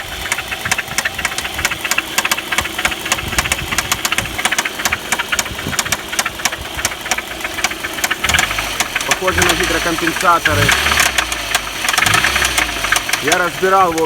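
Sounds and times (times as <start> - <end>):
car engine ticking knock: 0.0 - 14.0.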